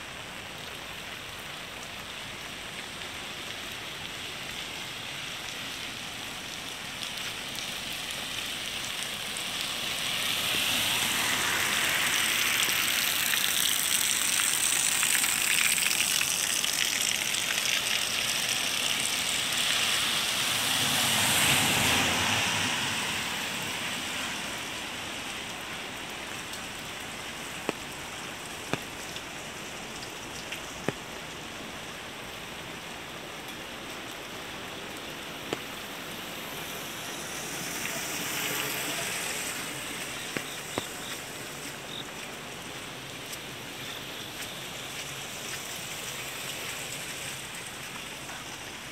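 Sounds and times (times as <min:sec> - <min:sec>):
rain hissing on street: 0:00.0 - 0:48.9.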